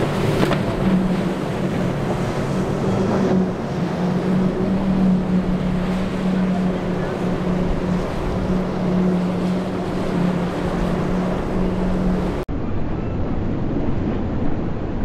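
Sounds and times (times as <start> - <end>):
spray rushing through waves: 0.0 - 12.5
water and wind hiss: 0.0 - 12.5
outboard engines droning: 0.0 - 15.0.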